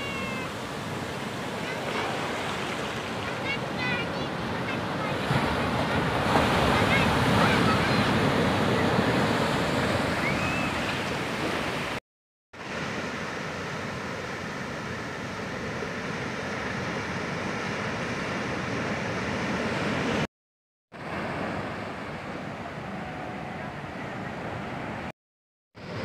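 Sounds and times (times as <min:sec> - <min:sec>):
ocean waves breaking: 0:00.0 - 0:12.0, 0:12.6 - 0:20.3, 0:21.0 - 0:25.1
surf washing up the shore: 0:00.0 - 0:12.0, 0:12.6 - 0:20.3, 0:21.0 - 0:25.1.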